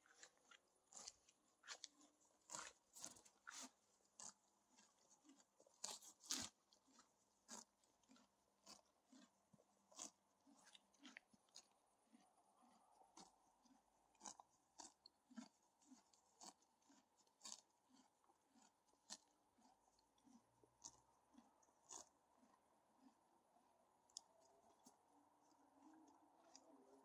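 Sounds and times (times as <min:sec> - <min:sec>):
horse chewing grass: 0:00.0 - 0:27.0.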